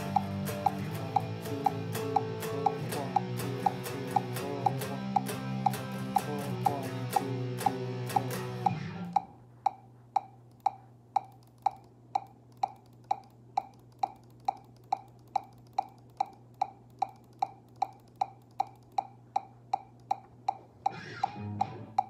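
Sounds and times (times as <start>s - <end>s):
metronome clicking: 0.0s - 22.0s.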